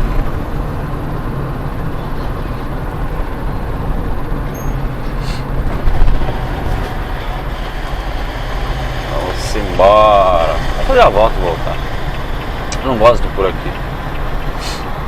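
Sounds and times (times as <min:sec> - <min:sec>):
vehicle engine and road rumble: 0:00.0 - 0:15.0
vehicle bump: 0:01.8 - 0:15.0.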